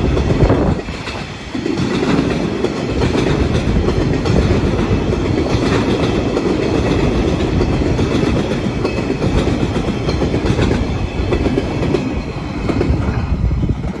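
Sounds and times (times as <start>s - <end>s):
train wheels clickety-clack: 0.0s - 14.0s.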